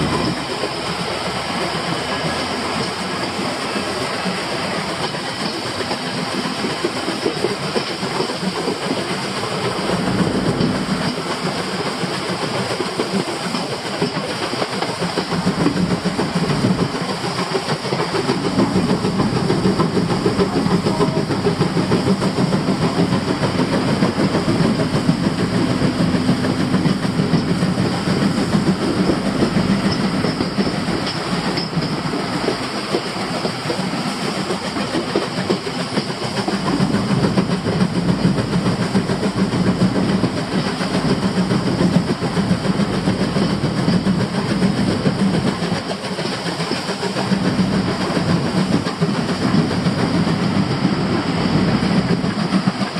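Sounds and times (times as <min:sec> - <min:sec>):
steam locomotive exhaust: 0:00.0 - 0:52.9
wheels clattering on rail: 0:00.0 - 0:52.9.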